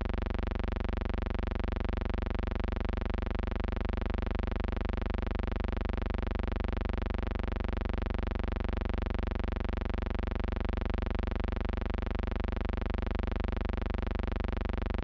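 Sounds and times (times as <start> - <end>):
low electrical hum and buzz: 0.0 - 15.0.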